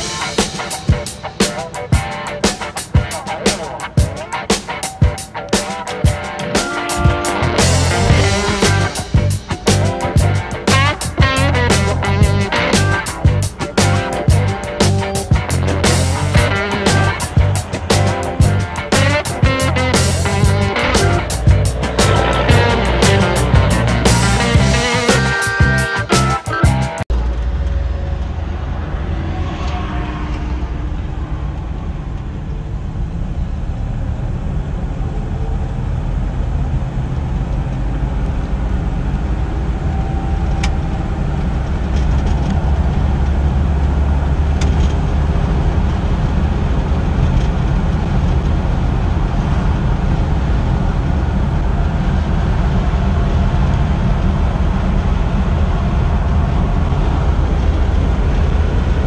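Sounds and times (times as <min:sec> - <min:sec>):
road noise: 0:00.0 - 0:59.0
low engine rumble: 0:06.1 - 0:59.0.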